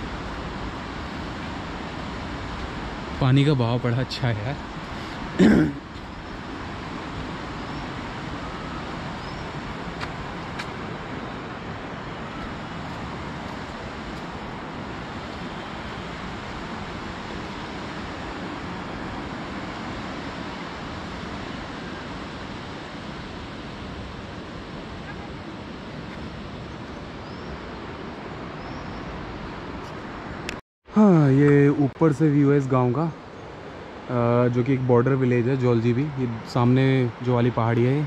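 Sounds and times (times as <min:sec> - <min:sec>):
river rushing: 0:00.0 - 0:38.0.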